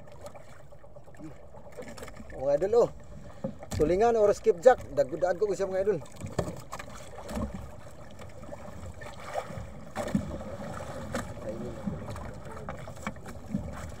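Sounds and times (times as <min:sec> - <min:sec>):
sea water: 0:00.0 - 0:14.0
wind: 0:00.0 - 0:14.0.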